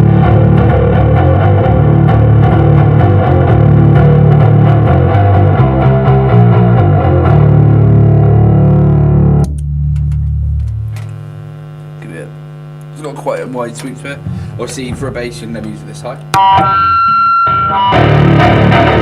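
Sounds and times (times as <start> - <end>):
amplifier hum: 0.0 - 19.0
distorted electric bass riff: 0.0 - 19.0.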